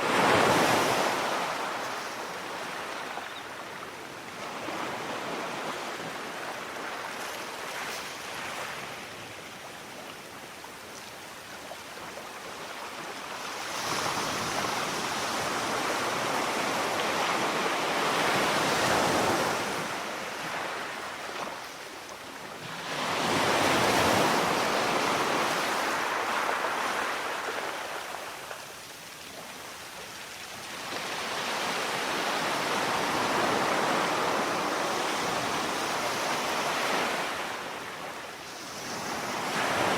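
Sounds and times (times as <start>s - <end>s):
waves breaking and washing in: 0.0s - 39.9s.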